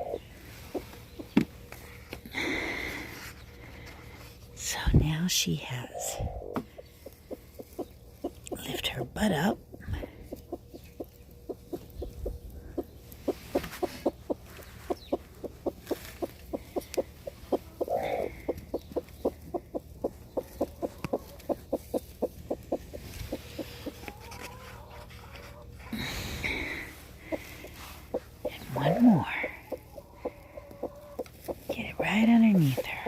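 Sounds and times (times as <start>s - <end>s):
hen clucking: 0.0s - 1.8s, 6.0s - 33.0s.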